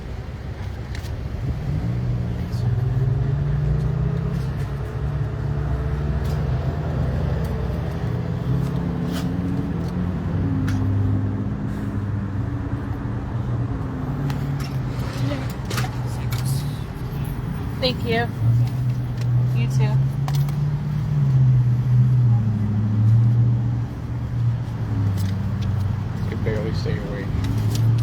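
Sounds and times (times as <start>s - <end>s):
car engine humming from inside: 0.0s - 28.0s.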